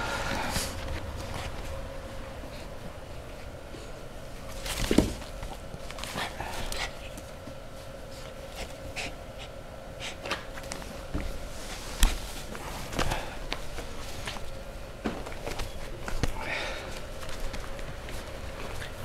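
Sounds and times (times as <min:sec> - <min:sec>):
faint steady hum: 0:00.0 - 0:19.0
puppies snuffling and panting: 0:02.4 - 0:14.6, 0:15.2 - 0:19.0.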